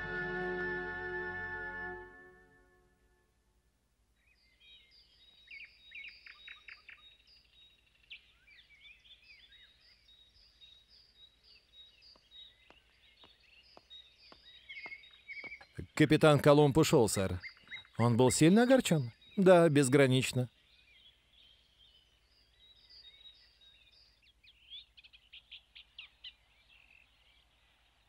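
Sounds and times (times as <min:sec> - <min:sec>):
small birds chirping: 0:04.2 - 0:28.0.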